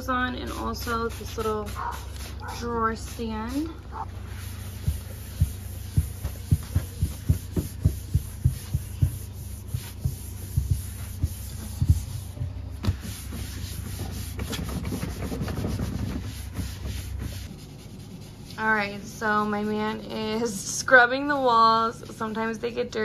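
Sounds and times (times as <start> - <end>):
steady low hum: 0.0 - 23.0
cloth rubbing on tabletop: 0.4 - 19.9.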